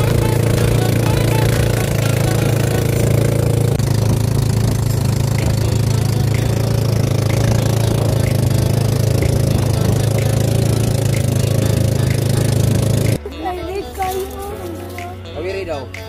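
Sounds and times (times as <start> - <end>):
boat engine droning: 0.0 - 15.3.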